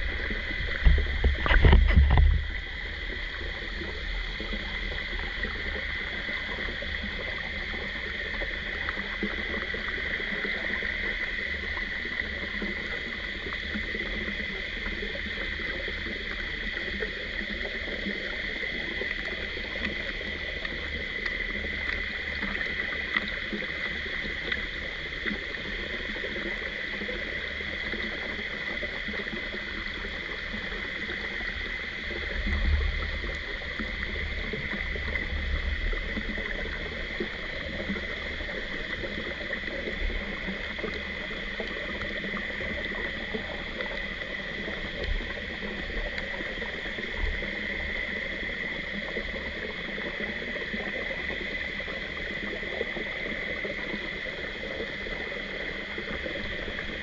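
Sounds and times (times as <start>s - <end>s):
mountain stream running: 0.0s - 57.0s.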